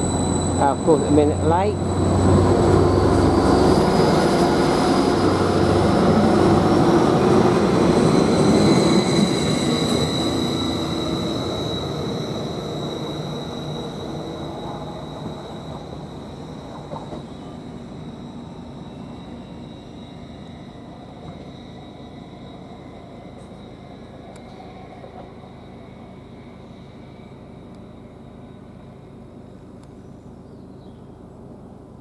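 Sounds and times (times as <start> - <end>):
train high whine: 0.0 - 32.0
train rumble: 0.0 - 32.0.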